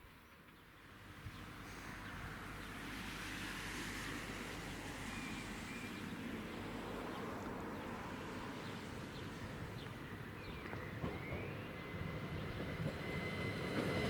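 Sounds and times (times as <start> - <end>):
train rumbling: 0.4 - 14.0.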